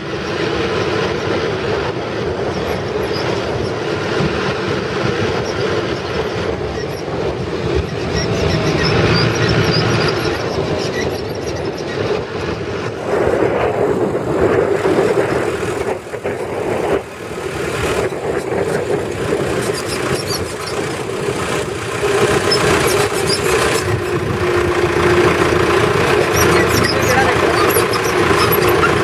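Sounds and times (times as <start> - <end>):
tractor engine running: 0.1 - 29.0.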